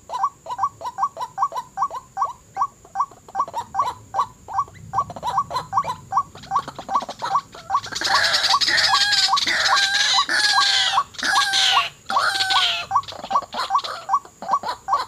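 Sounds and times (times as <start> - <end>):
birds calling rising and falling: 0.0 - 15.0
waterhens croaking: 0.0 - 15.0.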